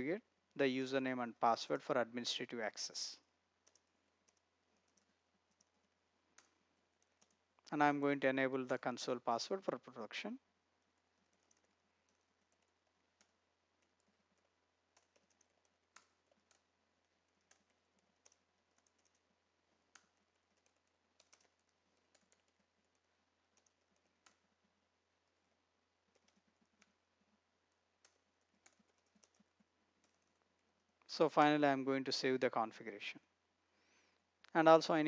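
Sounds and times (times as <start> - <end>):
faint keyboard typing: 1.6 - 31.2.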